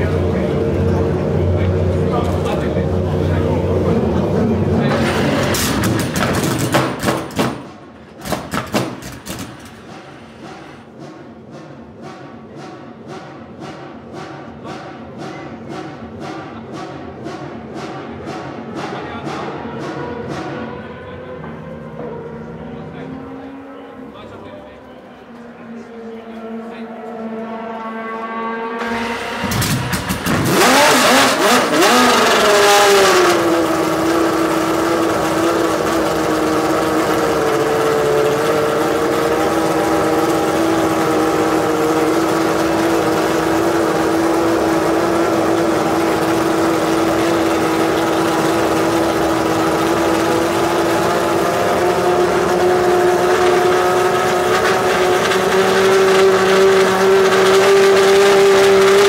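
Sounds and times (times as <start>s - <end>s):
racing car engine revving and idling: 0.0s - 59.0s.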